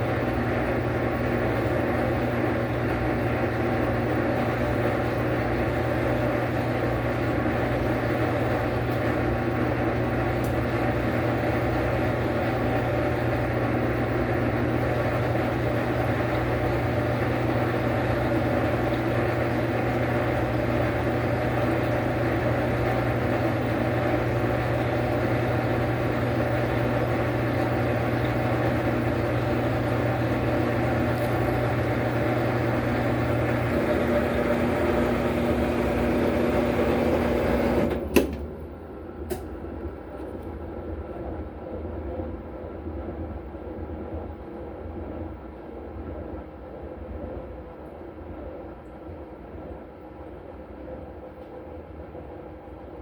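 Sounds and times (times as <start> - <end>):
washing machine running: 0.0 - 53.0.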